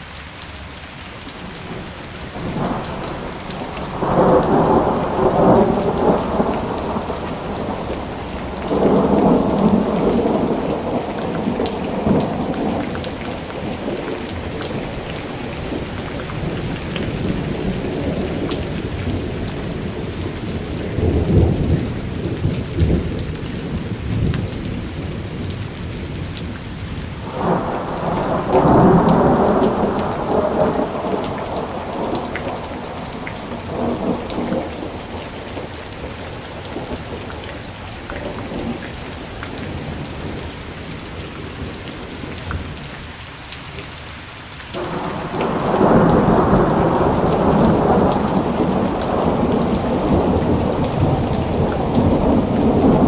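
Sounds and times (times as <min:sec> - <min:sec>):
steady rain: 0:00.0 - 0:53.0
rolling thunder: 0:01.3 - 0:42.9, 0:44.8 - 0:53.0.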